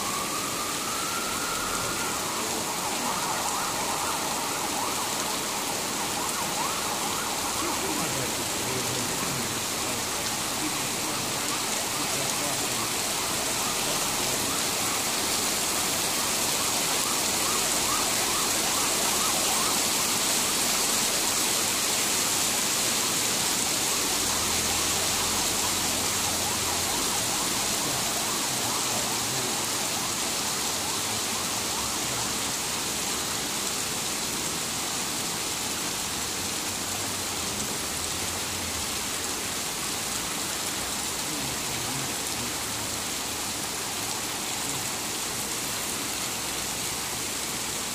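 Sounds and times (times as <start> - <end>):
torrential rain pouring: 0.0 - 47.9.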